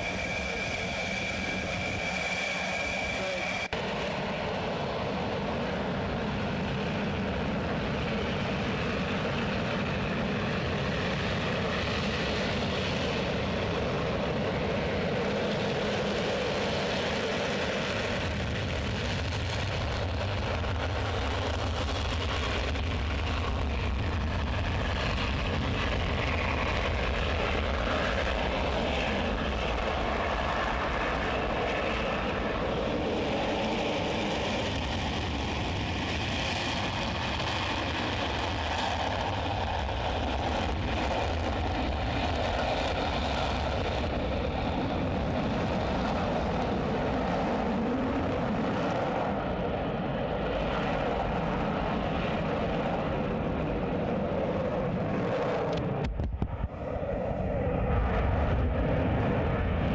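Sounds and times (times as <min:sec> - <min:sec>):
jet engine roar: 0:00.0 - 0:59.9.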